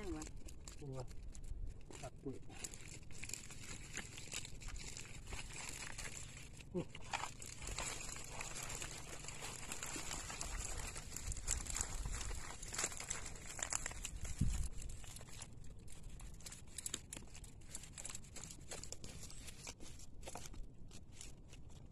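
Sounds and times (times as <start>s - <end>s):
net rustling and clicking: 0.0s - 21.9s.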